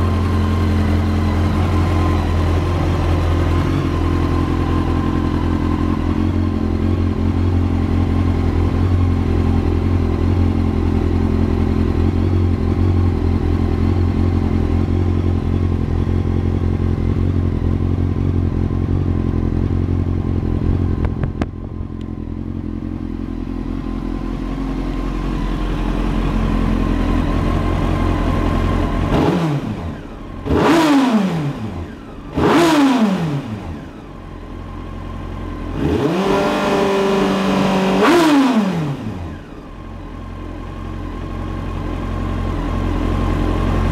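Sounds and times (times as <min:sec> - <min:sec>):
motorcycle engine idling: 0:00.0 - 0:43.9
motorcycle engine revving: 0:00.0 - 0:43.9.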